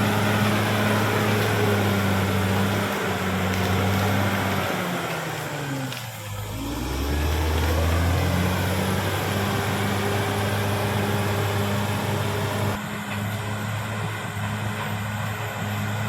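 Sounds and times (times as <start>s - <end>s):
bulldozer diesel engine droning: 0.0s - 16.0s.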